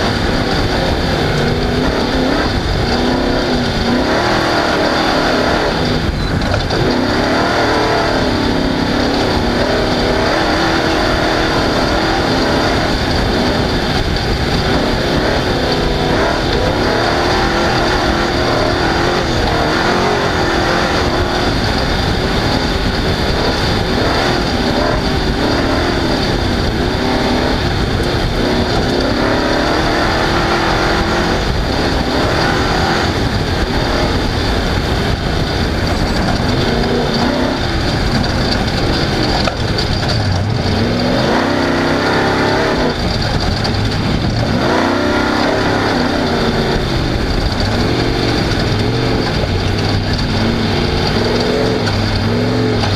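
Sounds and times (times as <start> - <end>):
race car engine revving: 0.0 - 52.9
steady high whine: 0.0 - 52.9.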